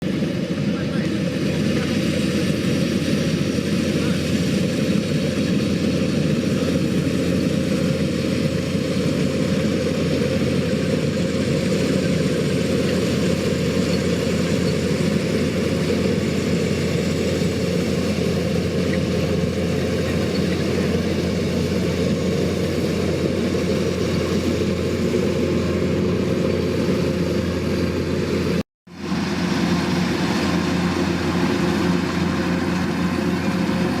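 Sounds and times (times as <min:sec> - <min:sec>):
combine harvester droning: 0:00.0 - 0:34.0.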